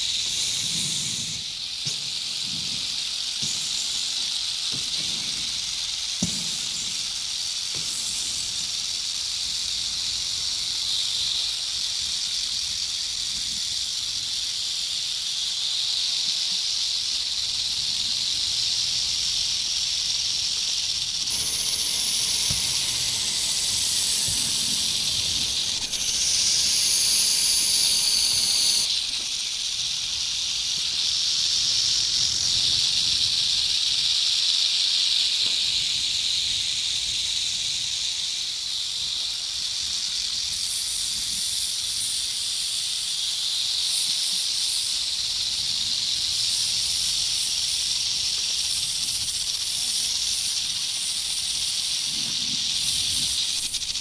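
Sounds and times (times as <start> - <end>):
snakes hissing: 0.0 - 54.0.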